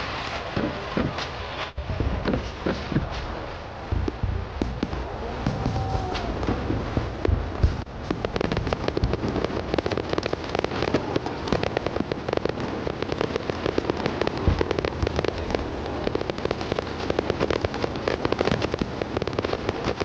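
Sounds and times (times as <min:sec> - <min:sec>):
deep firework boom: 0:00.0 - 0:20.0
fireworks crackling: 0:00.0 - 0:20.0.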